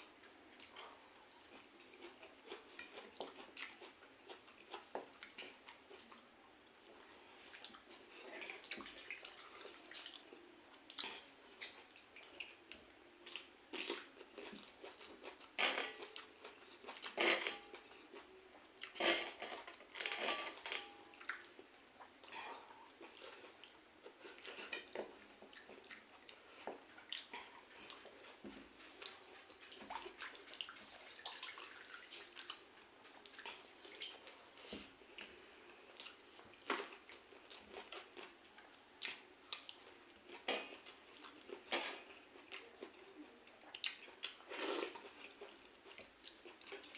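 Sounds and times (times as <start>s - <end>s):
chewing: 0.0s - 19.0s, 20.9s - 46.9s.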